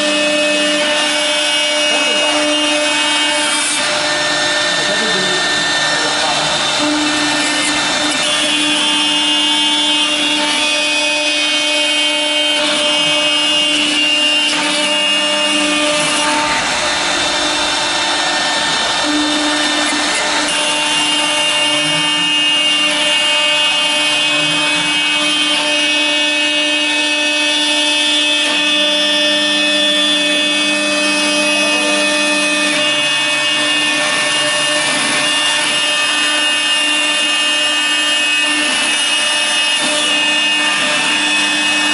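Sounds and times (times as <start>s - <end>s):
router spindle high-pitched whine: 0.0s - 41.9s.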